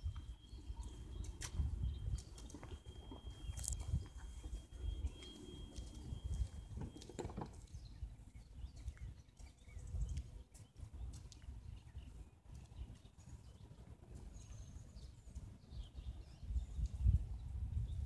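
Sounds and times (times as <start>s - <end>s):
faint bird chirps: 0.0s - 17.2s.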